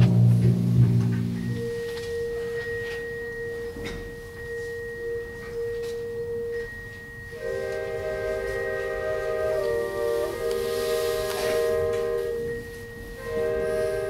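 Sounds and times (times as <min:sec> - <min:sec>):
wind instruments sustained chord: 0:00.0 - 0:14.0.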